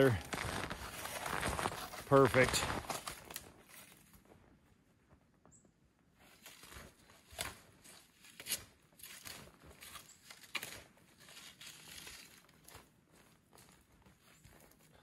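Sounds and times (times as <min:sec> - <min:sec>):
footsteps crunching through snow: 0:00.0 - 0:04.5, 0:06.2 - 0:15.0.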